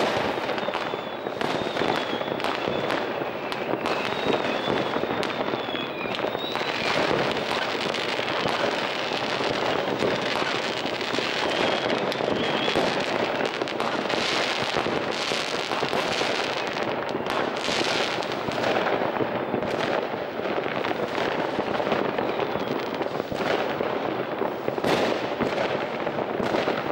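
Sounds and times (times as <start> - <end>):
rockets whistling: 0.0 - 23.3
firecrackers and fireworks banging: 0.0 - 26.9.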